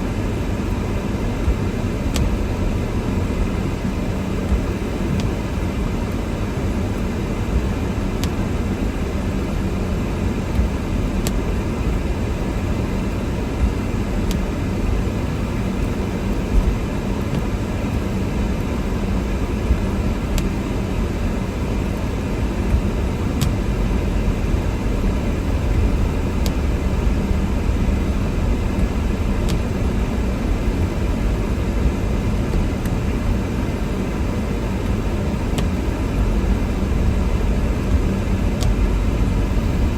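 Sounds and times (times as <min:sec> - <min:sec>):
car engine and tyre noise: 0:00.0 - 0:39.9
wind: 0:00.0 - 0:39.9.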